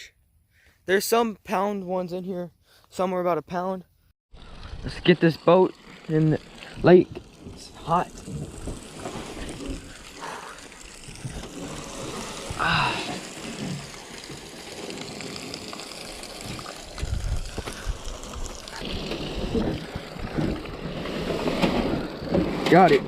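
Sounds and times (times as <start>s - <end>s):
water splashing and trickling: 4.3s - 23.0s.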